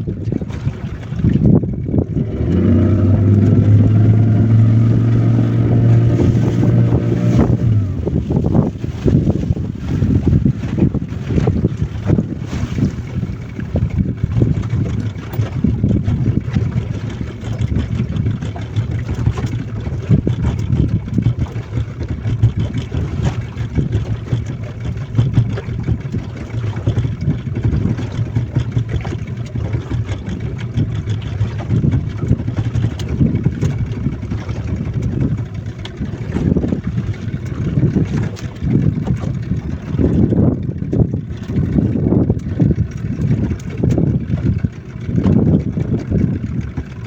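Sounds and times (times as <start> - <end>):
boat motor humming: 0.0 - 47.0
water rushing: 0.0 - 47.0.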